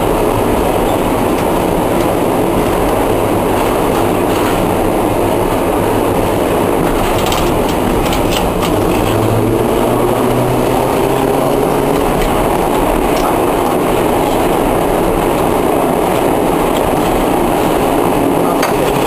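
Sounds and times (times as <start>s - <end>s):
tram motor hum: 0.0s - 19.0s
wheels clicking over rail joints: 0.1s - 19.0s.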